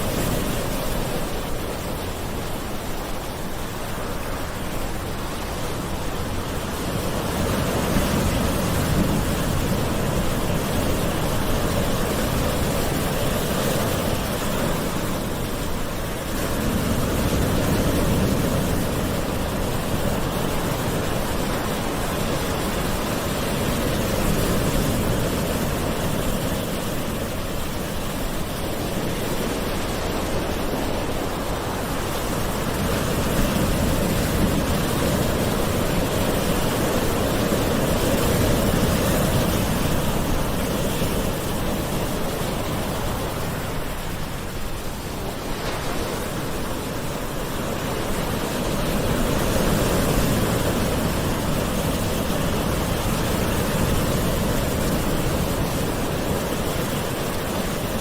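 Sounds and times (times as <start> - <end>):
ocean waves washing onto shore: 0.0 - 58.0.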